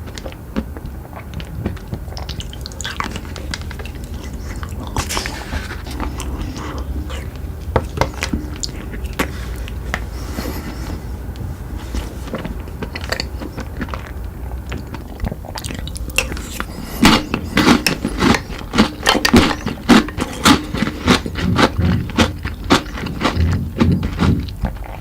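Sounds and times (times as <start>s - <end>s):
chocolate crunching when chewed: 0.0s - 25.0s
low steady rumble: 0.0s - 25.0s.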